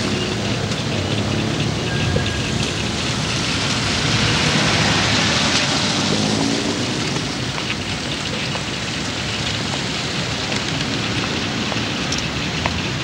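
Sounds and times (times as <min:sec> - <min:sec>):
hiss of street noise: 0:00.0 - 0:13.0.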